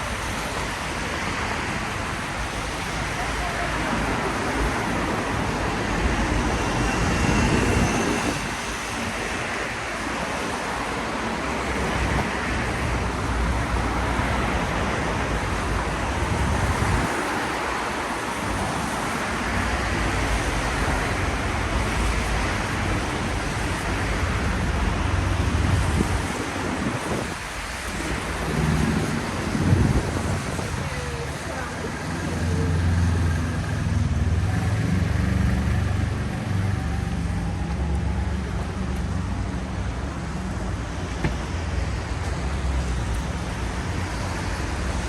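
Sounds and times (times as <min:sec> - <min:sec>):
cars passing on wet road: 0:00.0 - 0:45.0
steady traffic noise: 0:00.0 - 0:45.0.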